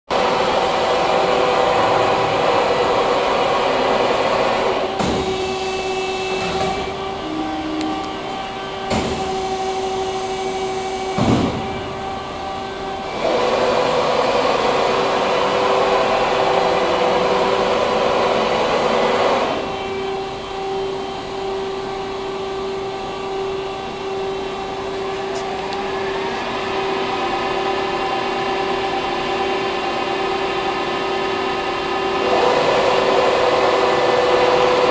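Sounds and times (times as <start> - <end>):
drilling machine spindles humming: 0.1 - 34.9
drills cutting steel plate: 0.1 - 34.9.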